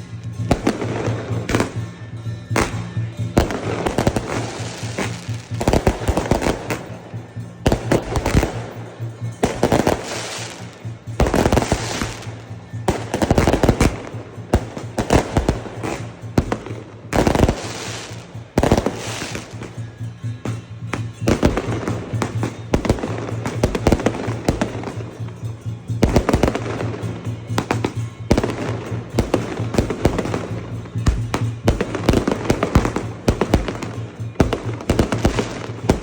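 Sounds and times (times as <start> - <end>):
fireworks banging and crackling: 0.0 - 36.0
music: 0.0 - 36.0.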